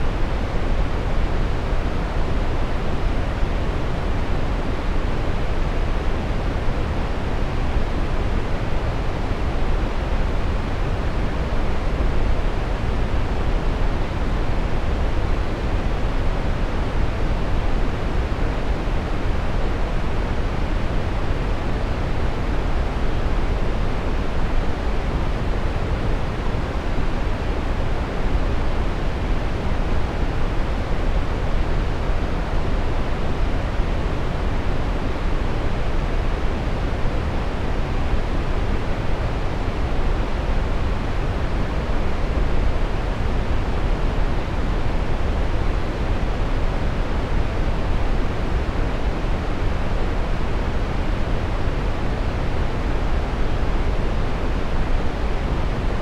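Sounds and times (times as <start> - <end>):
brown noise rumble: 0.0 - 56.0.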